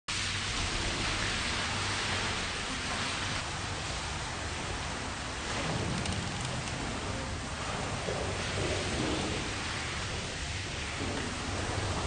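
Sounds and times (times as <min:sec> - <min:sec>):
room noise hiss: 0:00.1 - 0:12.0.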